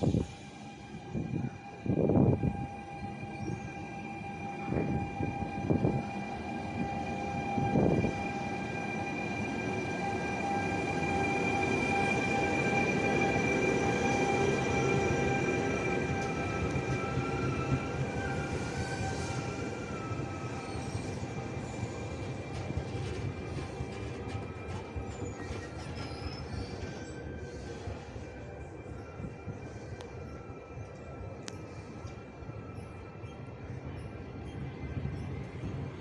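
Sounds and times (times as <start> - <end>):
electric locomotive whine: 0.0 - 36.0
train rumble: 0.0 - 36.0.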